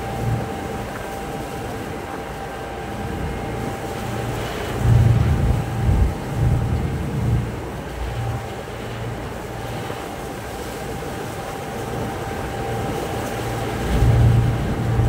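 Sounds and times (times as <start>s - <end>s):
ferry engine drone: 0.0s - 15.0s
wind buffeting microphone: 0.0s - 15.0s.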